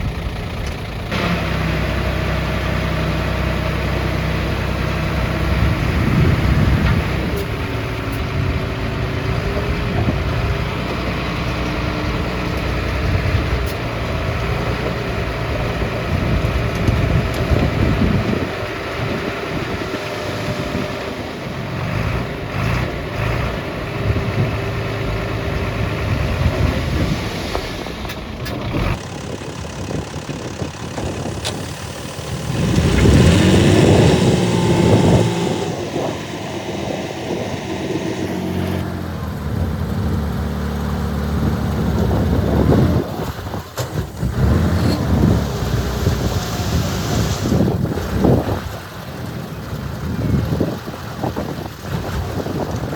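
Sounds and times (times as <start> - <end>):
heavy diesel engines running: 0.0 - 52.9
engine revving: 1.1 - 27.2, 28.4 - 50.8.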